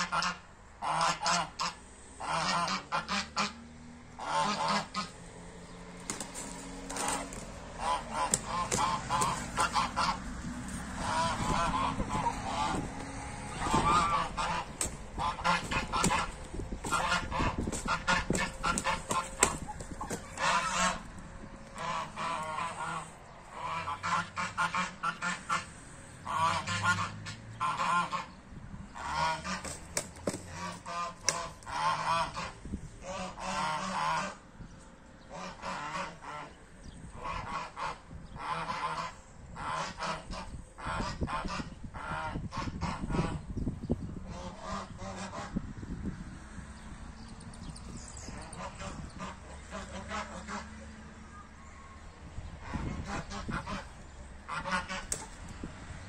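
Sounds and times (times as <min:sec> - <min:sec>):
geese honking: 0:00.0 - 0:03.6, 0:04.2 - 0:05.3, 0:06.1 - 0:28.4, 0:29.0 - 0:34.4, 0:35.3 - 0:36.6, 0:37.2 - 0:43.4, 0:48.4 - 0:50.8, 0:52.6 - 0:55.3.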